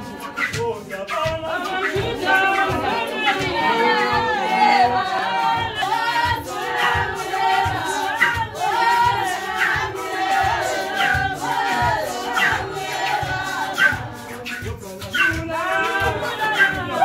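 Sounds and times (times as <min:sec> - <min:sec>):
congregation singing a hymn: 0:00.0 - 0:17.0
low thumping beat: 0:00.0 - 0:17.0.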